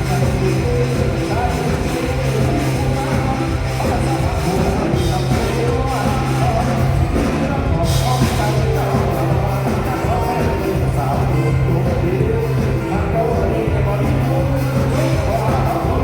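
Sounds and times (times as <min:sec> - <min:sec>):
loud amplified folk band music: 0:00.0 - 0:16.0.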